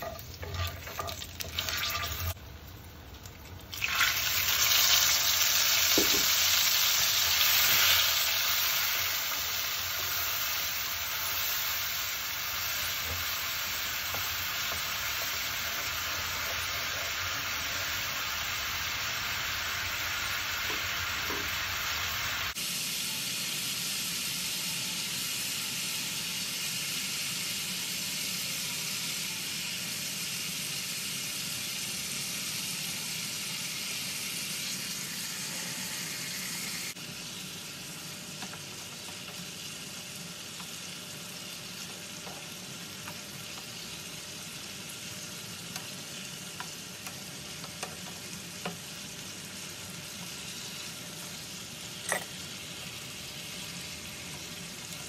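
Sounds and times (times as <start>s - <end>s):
fish frying: 0.0s - 24.8s, 29.3s - 55.0s
gravy sizzling in a frying pan: 0.0s - 55.0s.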